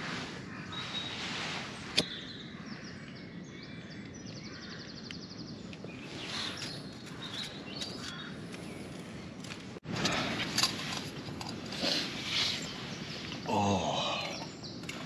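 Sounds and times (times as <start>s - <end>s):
birds chirping: 0.0s - 15.0s
outdoor background hiss: 0.0s - 15.0s.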